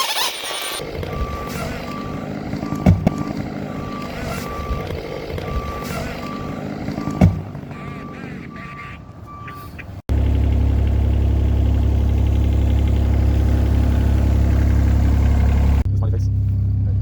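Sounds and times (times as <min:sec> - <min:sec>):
heavy engine running: 0:00.0 - 0:17.0
vehicle backup alarm beeping: 0:00.8 - 0:17.0.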